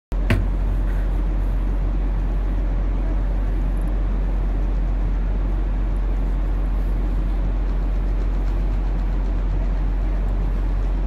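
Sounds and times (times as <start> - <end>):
conveyor belt rumbling: 0.1 - 11.0.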